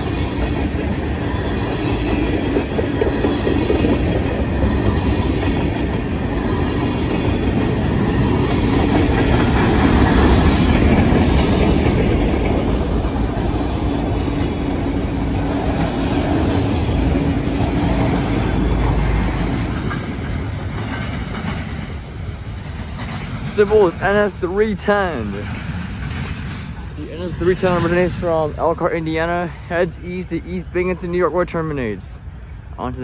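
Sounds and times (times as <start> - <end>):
steel wheels clattering on rails: 0.0 - 29.6
freight train rolling past: 0.0 - 33.0.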